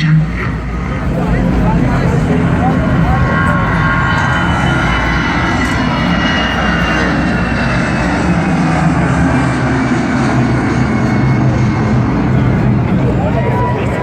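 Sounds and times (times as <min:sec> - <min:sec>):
aircraft-like engine drone: 0:00.0 - 0:14.0.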